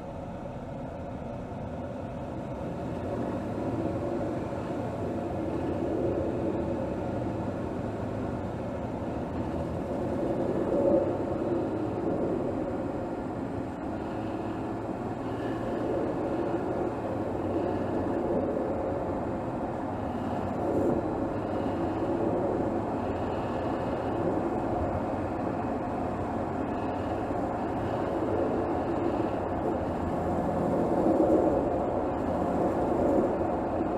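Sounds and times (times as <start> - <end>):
car engine droning: 0.0 - 33.9.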